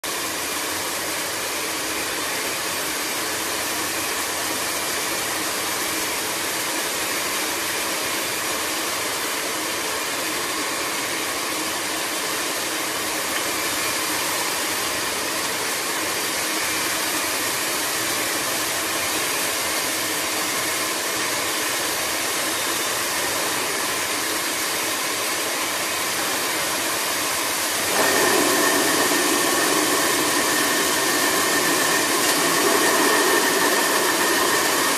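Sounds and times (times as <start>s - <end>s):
milling machine whirring: 0.1s - 34.9s.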